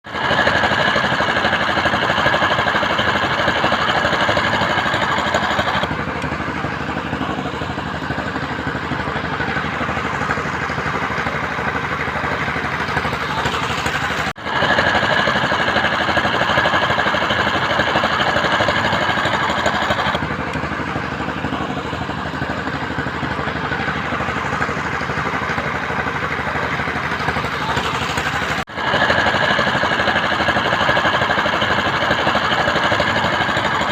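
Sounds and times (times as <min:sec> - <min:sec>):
heavy machinery engine whining: 0:00.1 - 0:33.9.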